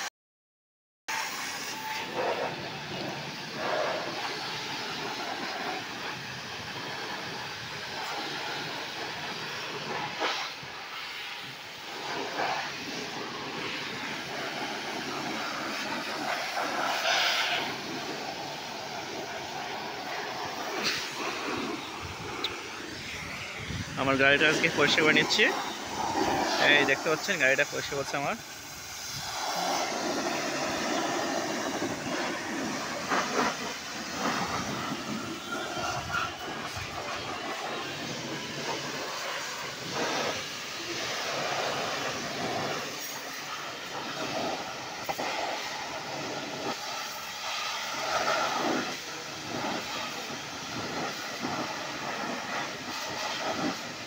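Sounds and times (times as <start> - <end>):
pressure washer spray hissing: 1.1 - 54.0.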